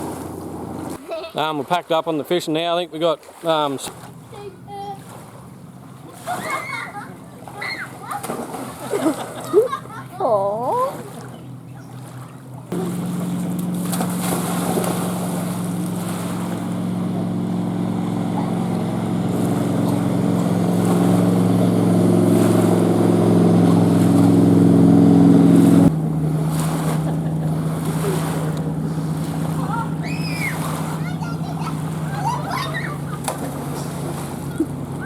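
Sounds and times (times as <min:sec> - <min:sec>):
engine droning hum: 0:00.0 - 0:35.0.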